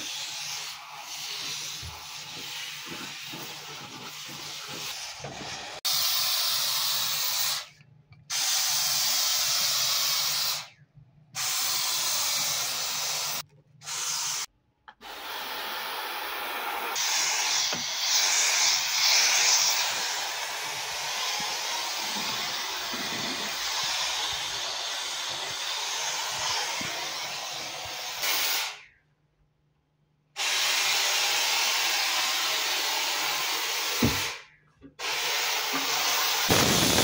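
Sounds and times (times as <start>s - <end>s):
steam cleaner hissing: 0.0s - 10.7s, 11.4s - 28.9s, 30.4s - 37.0s.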